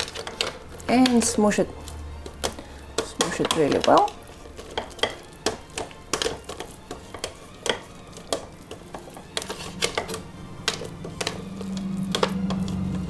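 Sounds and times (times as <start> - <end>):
utensil tapping potato: 0.0 - 13.0.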